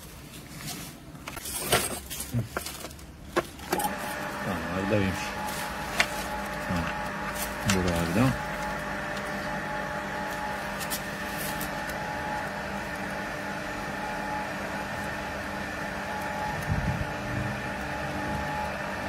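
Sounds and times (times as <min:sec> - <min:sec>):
electric water pump humming: 0:03.5 - 0:19.0.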